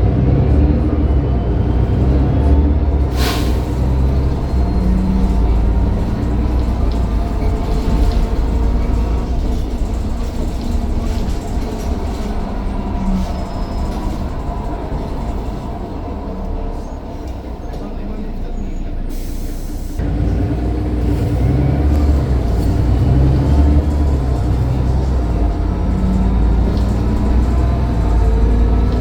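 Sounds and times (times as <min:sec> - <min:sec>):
bus diesel engine rumbling: 0:00.0 - 0:29.0.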